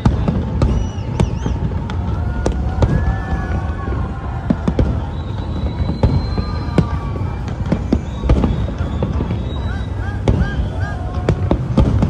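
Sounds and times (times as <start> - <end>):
fireworks sharp bangs: 0.0 - 12.0.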